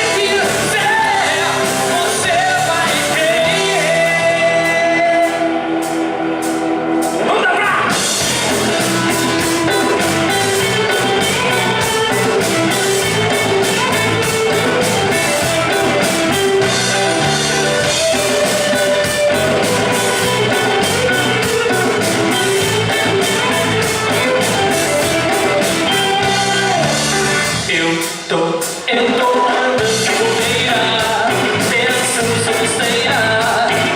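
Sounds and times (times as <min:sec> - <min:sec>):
upbeat band music: 0:00.0 - 0:33.9.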